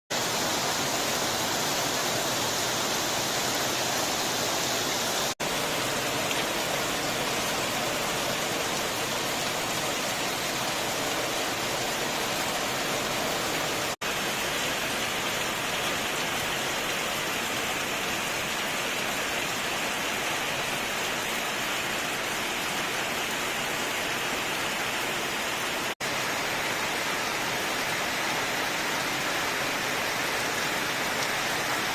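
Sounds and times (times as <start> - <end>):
heavy rain pouring: 0.1 - 31.9.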